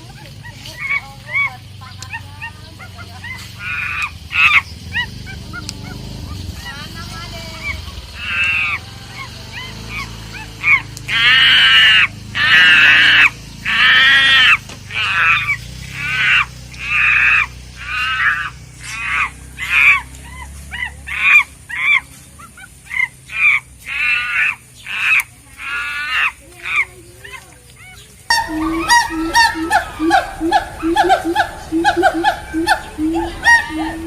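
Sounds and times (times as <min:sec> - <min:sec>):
geese honking: 0:00.6 - 0:26.9, 0:28.3 - 0:34.0.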